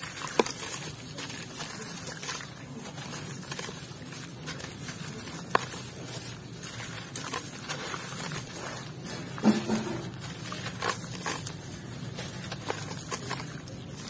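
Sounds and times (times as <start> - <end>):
grains pattering into water: 0.0 - 14.0
hands crushing wet cement chunks: 0.0 - 14.0.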